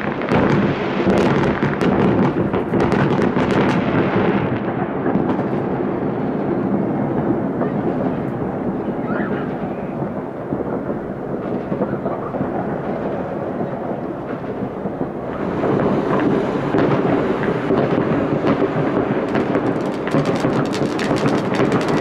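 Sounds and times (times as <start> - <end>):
distant fireworks bangs and crackles: 0.0 - 22.0.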